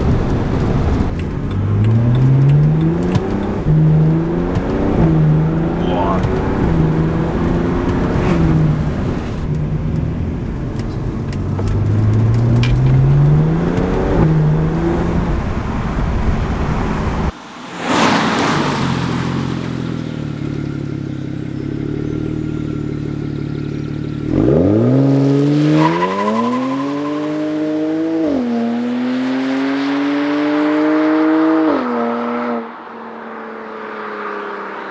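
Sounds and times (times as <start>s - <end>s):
car accelerating hard with upshifts: 0.0s - 34.9s
car engine revving: 0.0s - 34.9s.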